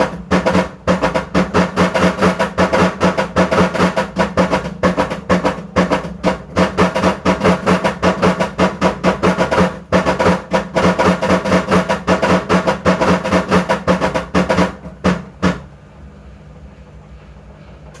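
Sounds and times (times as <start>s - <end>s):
washing machine knocking: 0.0s - 15.8s
washing machine hum: 0.0s - 18.0s.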